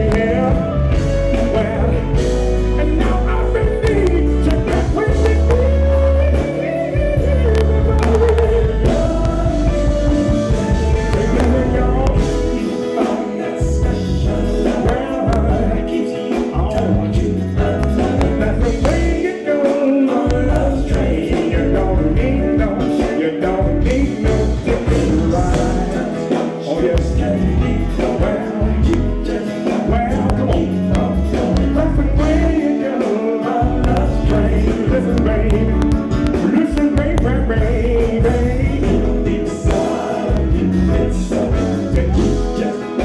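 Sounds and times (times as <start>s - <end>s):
bass line: 0.0s - 19.3s, 20.3s - 26.2s, 26.8s - 32.7s, 33.6s - 43.0s
drums: 0.0s - 43.0s
funk band playing: 0.0s - 43.0s
person singing: 0.0s - 43.0s.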